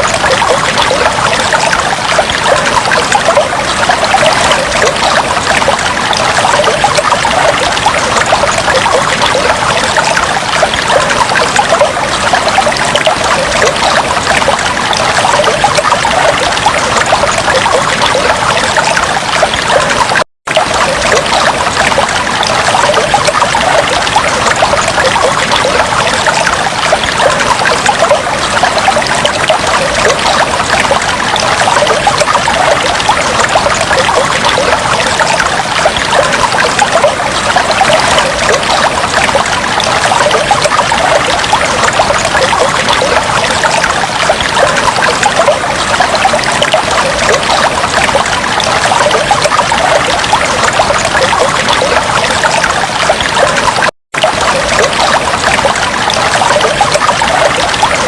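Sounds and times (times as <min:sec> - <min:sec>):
water trickling and bubbling: 0:00.0 - 0:58.0.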